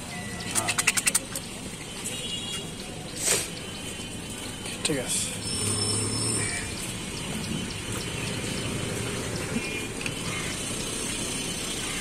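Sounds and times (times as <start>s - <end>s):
street background hiss: 1.2s - 12.0s.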